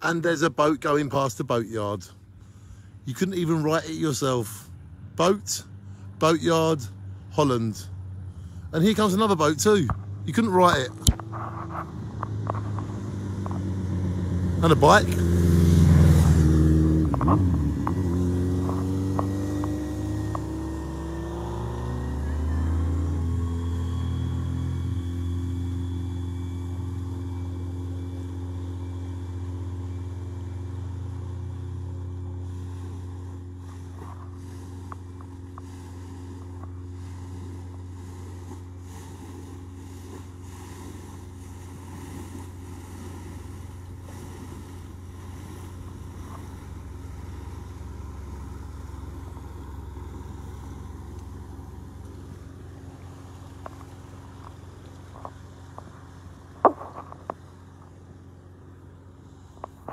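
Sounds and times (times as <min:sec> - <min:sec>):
motorboat engines droning: 0:00.0 - 0:59.9.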